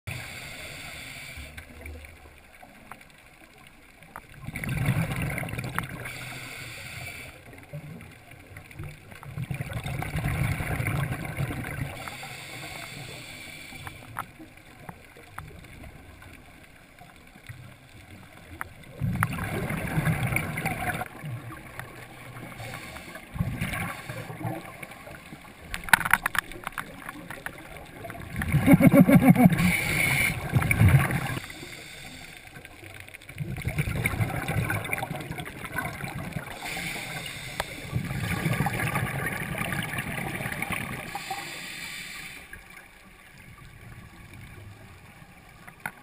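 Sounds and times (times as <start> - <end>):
low steady hiss: 0.1 - 5.0, 5.6 - 9.6, 10.5 - 46.0
underwater bubbling and gurgling: 0.1 - 46.0.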